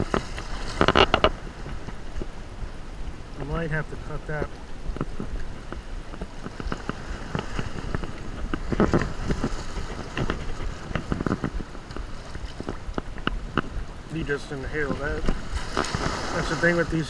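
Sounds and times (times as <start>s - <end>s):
water splashing and sloshing: 0.0s - 17.0s
wind rumble on microphone: 0.0s - 17.0s.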